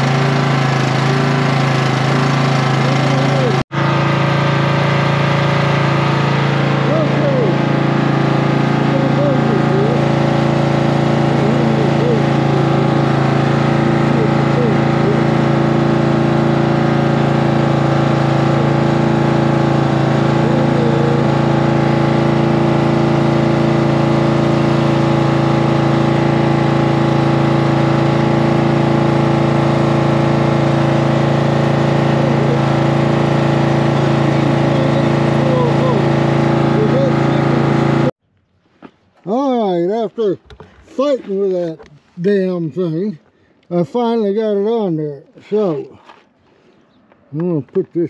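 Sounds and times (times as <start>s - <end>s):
mower engine idling: 0.0s - 44.8s.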